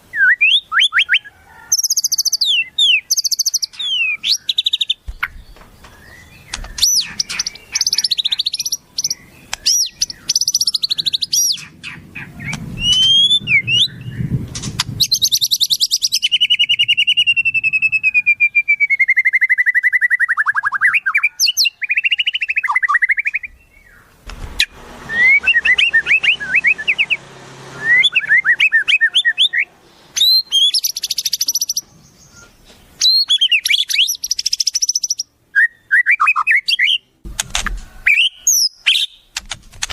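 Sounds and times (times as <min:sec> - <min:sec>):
songbirds singing: 0:00.0 - 0:39.4.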